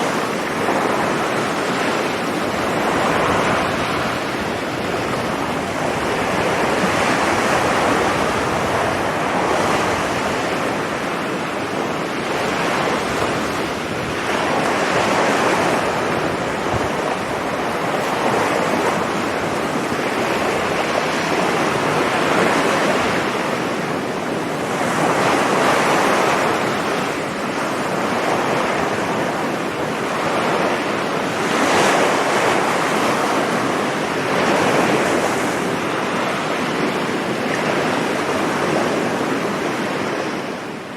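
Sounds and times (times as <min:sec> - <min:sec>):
sea surf breaking on beach: 0:00.0 - 0:40.9.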